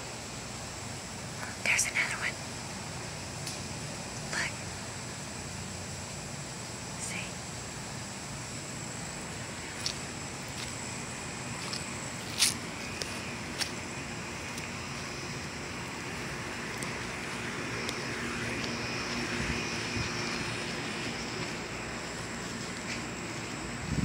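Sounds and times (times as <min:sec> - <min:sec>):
distant engine drone: 0:00.0 - 0:24.0.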